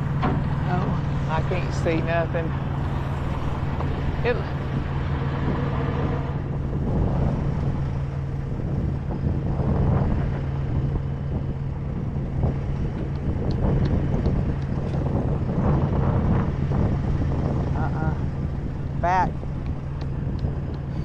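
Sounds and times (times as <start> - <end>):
diesel engine idling: 0.0 - 21.0
wind buffeting microphone: 0.0 - 21.0.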